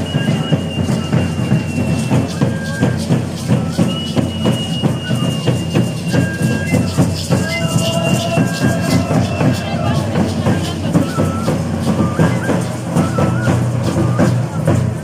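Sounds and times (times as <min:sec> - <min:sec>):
cane flute high held notes: 0:00.0 - 0:14.8
rhythmic drum beat: 0:00.0 - 0:15.0.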